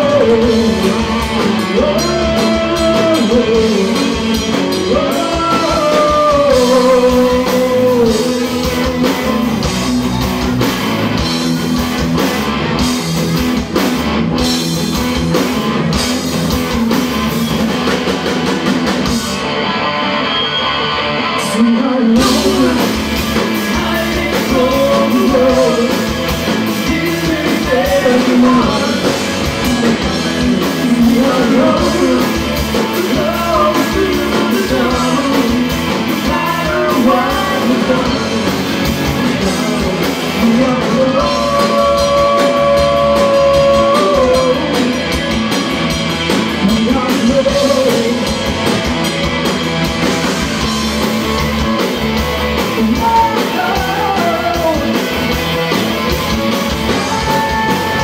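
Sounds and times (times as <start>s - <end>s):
live rock band with singer: 0.0s - 58.0s.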